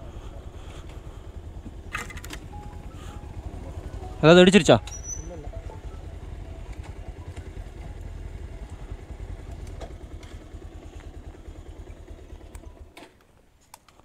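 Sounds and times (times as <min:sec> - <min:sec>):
motorcycle engine rumbling: 0:00.0 - 0:13.1.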